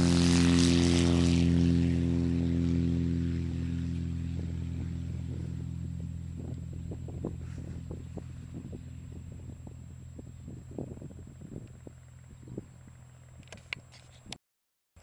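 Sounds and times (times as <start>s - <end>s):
propeller plane engine droning: 0.0s - 14.4s.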